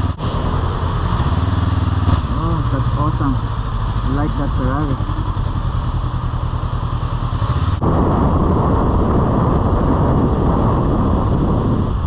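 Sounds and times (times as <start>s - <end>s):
motorcycle engine running: 0.0s - 12.0s
wind and road rush: 0.0s - 12.0s.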